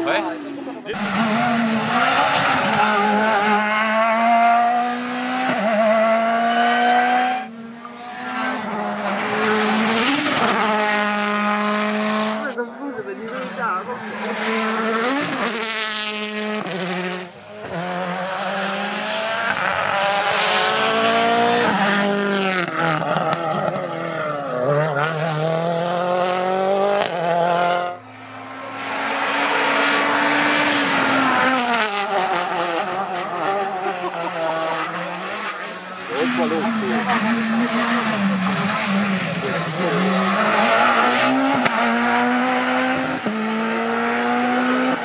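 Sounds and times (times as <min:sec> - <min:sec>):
rally car engines at full throttle: 0:00.0 - 0:45.0.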